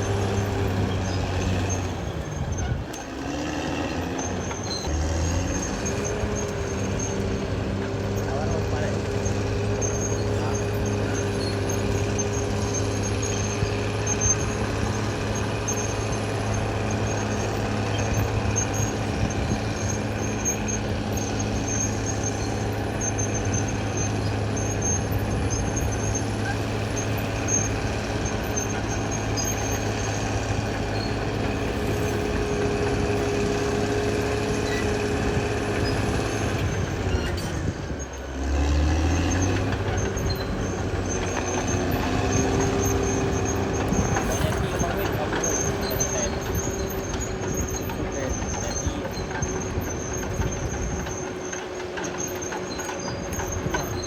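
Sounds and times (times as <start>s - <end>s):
bulldozer diesel engine running: 0.0s - 54.0s
faint high squeaks: 0.2s - 4.9s, 8.2s - 14.6s, 15.4s - 54.0s.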